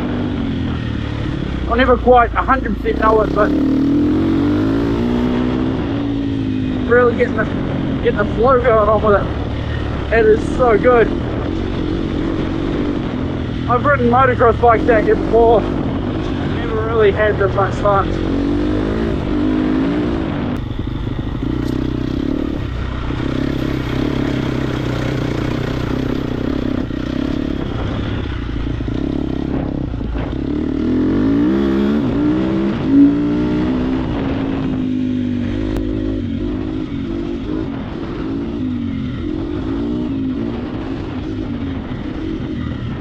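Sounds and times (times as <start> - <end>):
motorcycle engine revving: 0.0 - 43.0
wind rush: 0.0 - 43.0.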